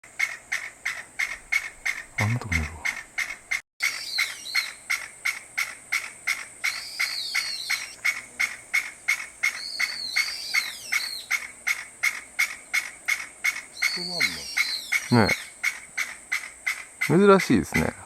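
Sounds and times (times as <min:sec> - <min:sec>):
higher arching bird call: 0:00.2 - 0:18.0
partridge sharp repeated calls: 0:00.2 - 0:18.0.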